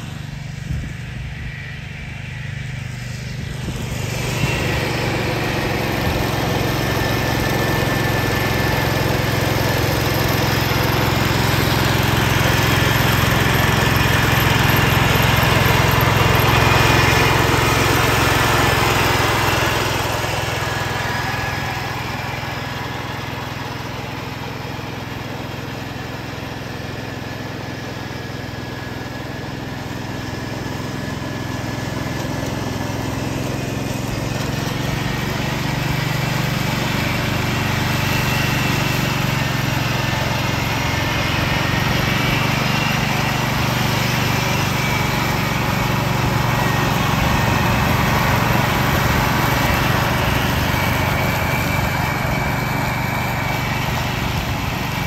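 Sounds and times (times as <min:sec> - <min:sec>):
mower mulching leaves: 0:00.0 - 0:55.0
tractor engine running: 0:00.0 - 0:55.0.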